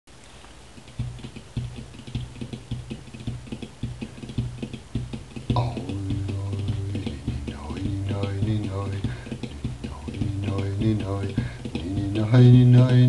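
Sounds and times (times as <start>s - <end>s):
plucked notes with low thump: 0.8s - 13.0s.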